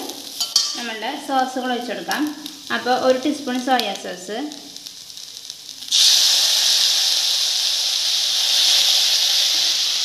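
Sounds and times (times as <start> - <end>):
food sizzling in a hot pan: 0.0 - 10.0.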